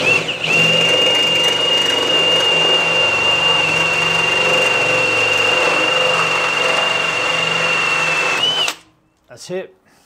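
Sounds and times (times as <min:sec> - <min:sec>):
drill cutting through copper: 0:00.0 - 0:08.8.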